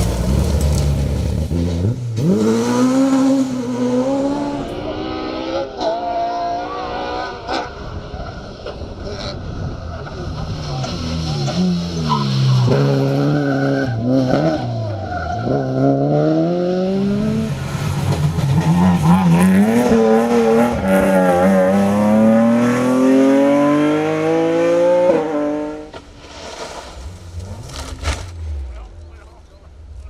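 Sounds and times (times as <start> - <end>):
rally car engine accelerating: 0.0 - 26.0.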